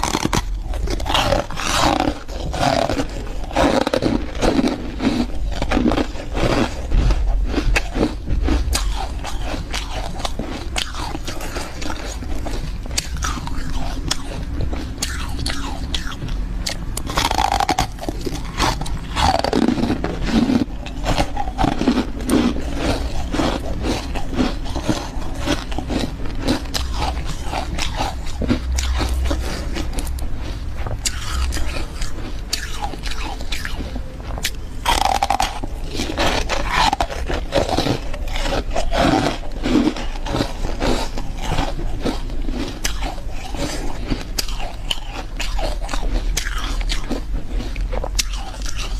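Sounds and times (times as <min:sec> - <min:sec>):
frost being chewed crunching: 0:00.0 - 0:48.9.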